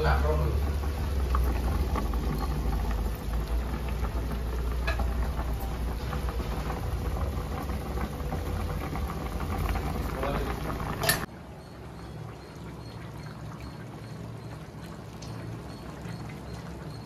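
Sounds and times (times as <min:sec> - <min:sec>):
low rumble of gas stove: 0:00.0 - 0:17.0
thick curry bubbling: 0:00.0 - 0:17.0.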